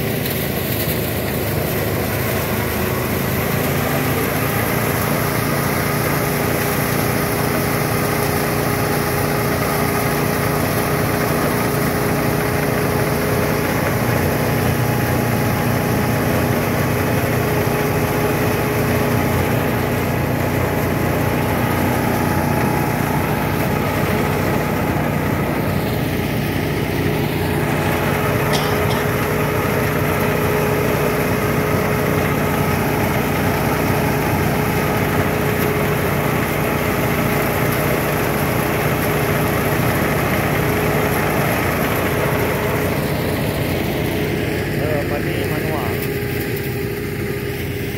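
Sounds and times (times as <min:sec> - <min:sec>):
small engine running steadily: 0:00.0 - 0:47.9.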